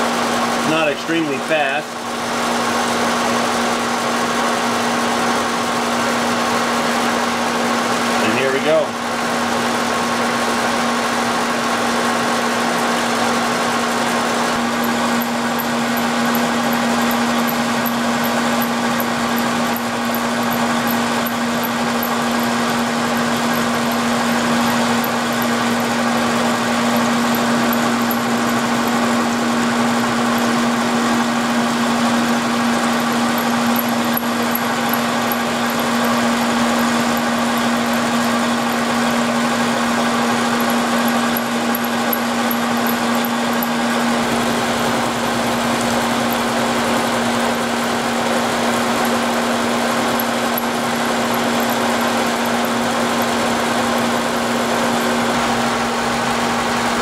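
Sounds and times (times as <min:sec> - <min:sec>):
end mill cutting metal: 0:00.0 - 0:57.0
milling machine humming: 0:00.0 - 0:57.0.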